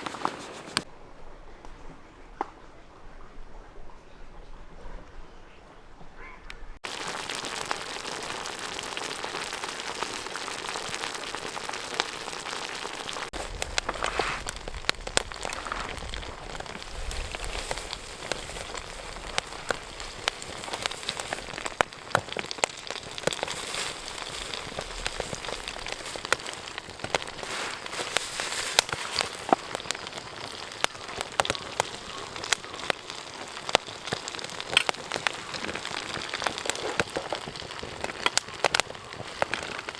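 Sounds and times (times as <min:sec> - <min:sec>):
campfire crackling and popping: 0:00.0 - 0:00.9, 0:06.8 - 0:39.9.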